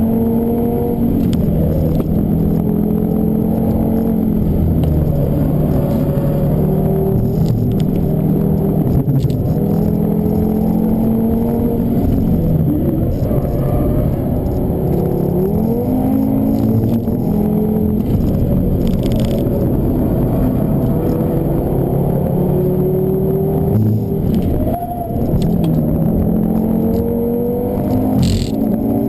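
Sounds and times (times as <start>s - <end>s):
car engine revving: 0.0s - 29.0s
road and tyre noise: 0.0s - 29.0s.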